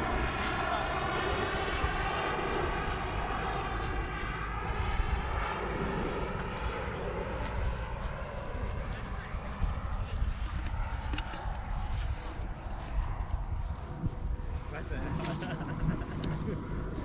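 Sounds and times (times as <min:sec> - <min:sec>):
model jet engine whine: 0:00.0 - 0:17.0.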